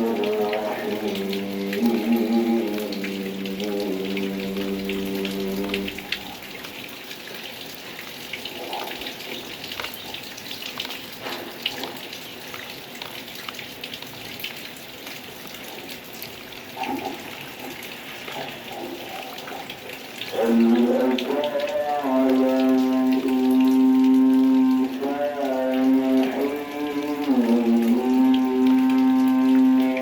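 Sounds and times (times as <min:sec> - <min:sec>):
rain patter: 0:00.0 - 0:30.0.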